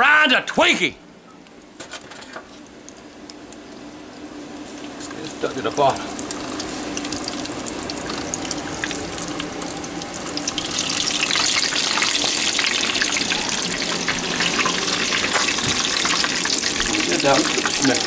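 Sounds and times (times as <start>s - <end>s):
oil bubbling and crackling: 1.5s - 18.0s.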